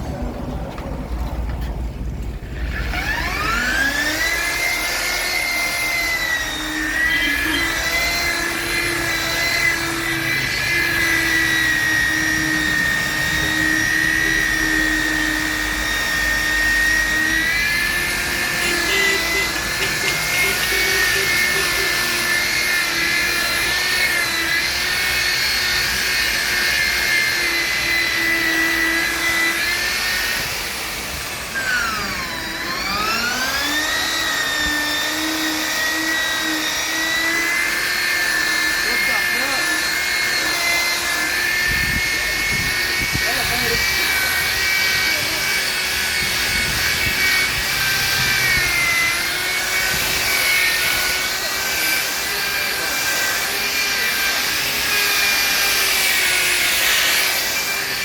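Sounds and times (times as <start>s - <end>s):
power tool motor whining: 0.0s - 58.0s.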